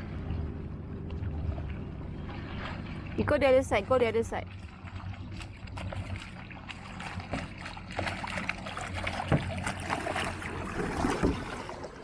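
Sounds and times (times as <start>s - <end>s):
steady low rumble: 0.0s - 10.8s
kayak paddles splashing: 0.0s - 12.0s.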